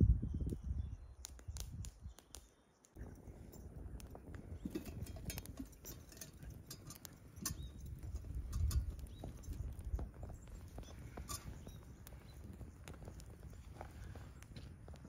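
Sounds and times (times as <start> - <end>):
campfire crackling and popping: 0.3 - 15.0.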